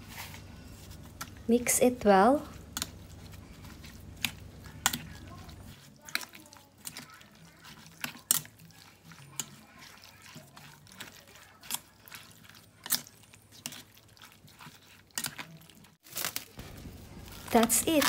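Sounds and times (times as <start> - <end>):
spatula stirring wet food: 0.0 - 18.0
wet squelches: 0.8 - 18.0.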